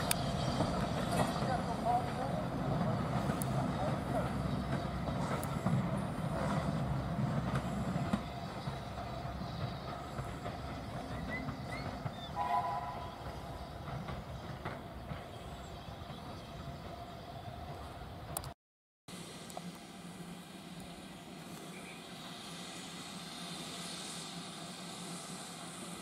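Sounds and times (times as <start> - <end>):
train rumbling over track: 0.0 - 26.0.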